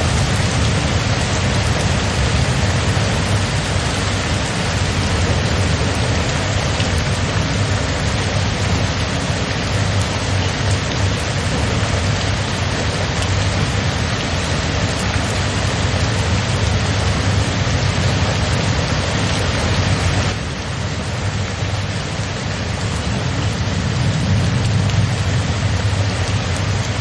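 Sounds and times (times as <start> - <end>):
low rumble: 0.0 - 27.0
steady rain hiss: 0.0 - 27.0.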